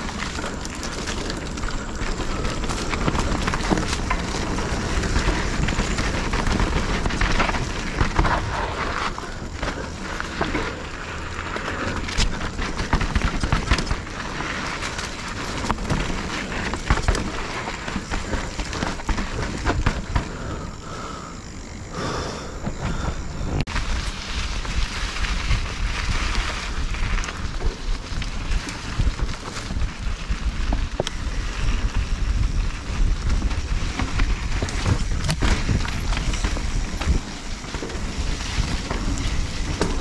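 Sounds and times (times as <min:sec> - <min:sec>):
bike clicks and knocks over bumps: 0:00.0 - 0:40.0
mountain bike rushing noise: 0:00.0 - 0:40.0.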